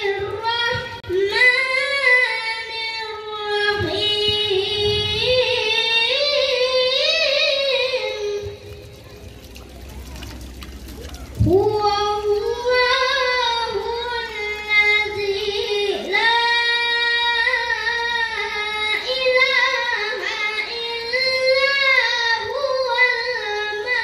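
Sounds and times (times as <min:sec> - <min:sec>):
boy chanting recitation: 0:00.0 - 0:10.3, 0:11.1 - 0:24.0.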